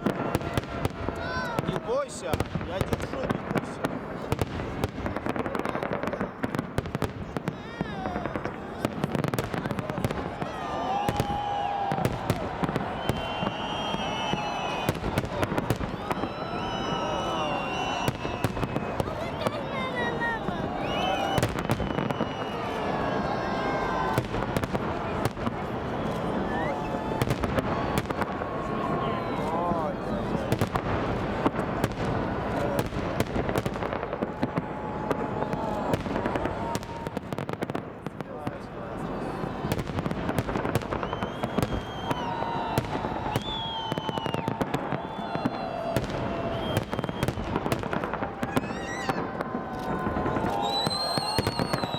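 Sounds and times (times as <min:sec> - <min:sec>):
crowd voices: 0:00.0 - 0:51.9
fireworks cracks and bangs: 0:00.0 - 0:51.9.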